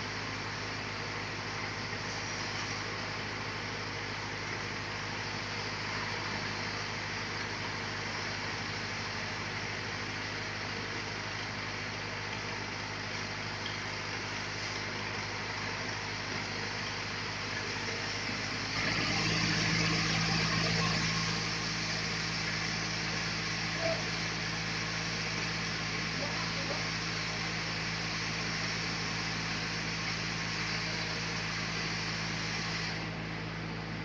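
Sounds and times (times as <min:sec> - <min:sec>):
sawmill machinery humming: 0:00.0 - 0:34.0.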